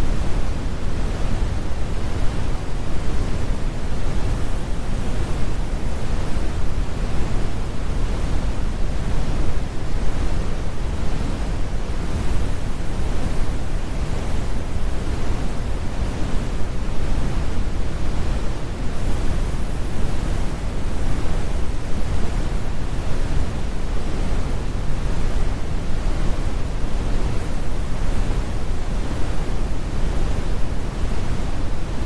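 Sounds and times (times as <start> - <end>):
brown noise rumble: 0.0 - 32.0.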